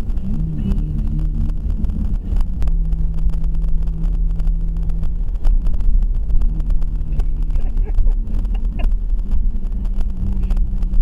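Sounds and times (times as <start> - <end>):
engine and road rumble: 0.0 - 11.0
steady hum: 0.0 - 11.0.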